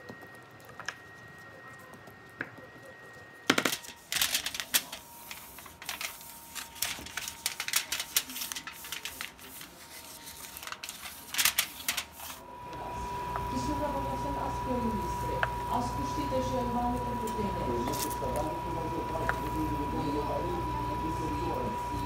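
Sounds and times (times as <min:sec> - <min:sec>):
aluminium foil crinkling: 0:00.0 - 0:12.4, 0:14.2 - 0:22.0.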